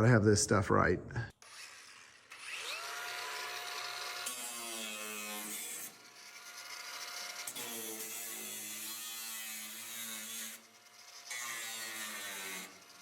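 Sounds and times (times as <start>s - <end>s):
power tool motor whine: 1.4s - 13.0s.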